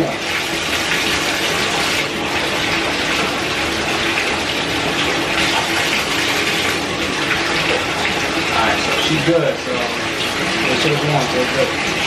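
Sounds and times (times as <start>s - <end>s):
water pouring into bathtub: 0.0s - 12.0s.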